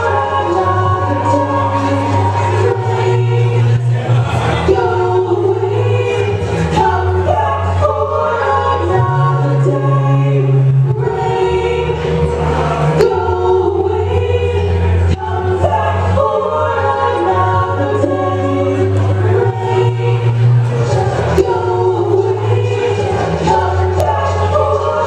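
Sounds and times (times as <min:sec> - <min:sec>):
woman singing: 0:00.0 - 0:03.8, 0:04.7 - 0:12.3, 0:12.9 - 0:25.0
layered harmony voices: 0:00.0 - 0:25.0
low bass notes: 0:00.0 - 0:25.0.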